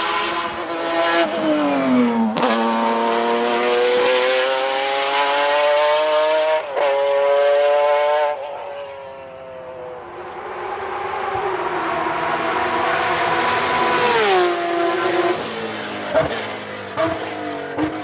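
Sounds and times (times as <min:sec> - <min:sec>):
car engine accelerating: 0:00.0 - 0:08.4, 0:09.7 - 0:18.0.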